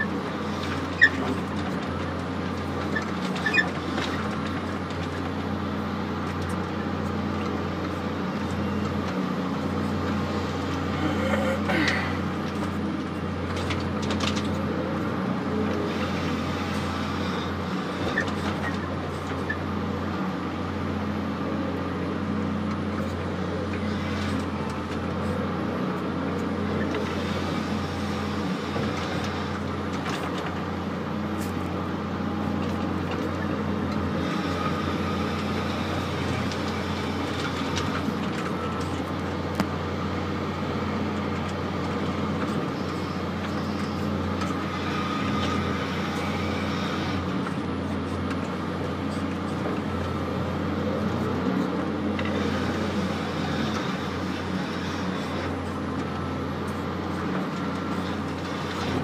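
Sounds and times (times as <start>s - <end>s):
forestry machine engine and hydraulics: 0.0s - 59.0s.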